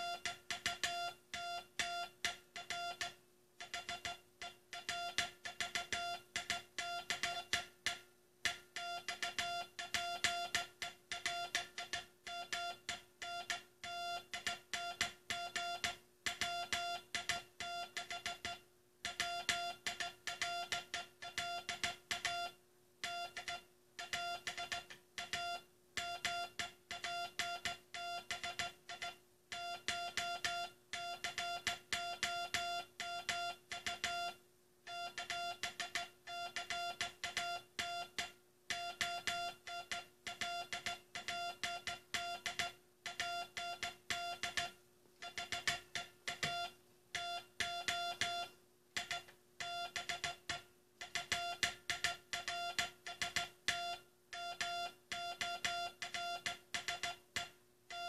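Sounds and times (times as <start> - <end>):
faint steady hum: 0.0 - 58.0
morse code tone: 0.0 - 58.0.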